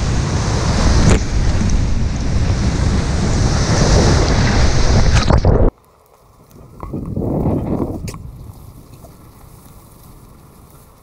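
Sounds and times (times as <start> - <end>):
wind buffeting microphone: 0.0 - 5.7, 6.5 - 11.0.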